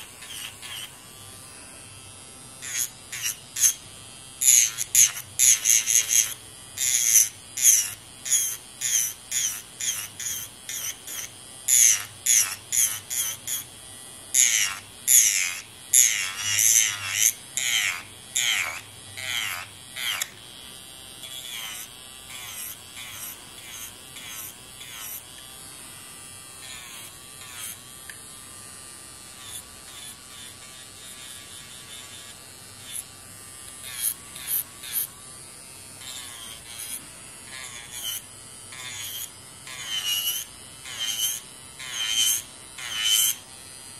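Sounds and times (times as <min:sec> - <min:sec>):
nail drill grinding: 0:00.0 - 0:01.3, 0:02.6 - 0:03.8, 0:04.4 - 0:20.4, 0:21.2 - 0:25.5, 0:26.6 - 0:27.9, 0:29.4 - 0:35.2, 0:36.0 - 0:43.5
faint motor hum: 0:00.0 - 0:43.9.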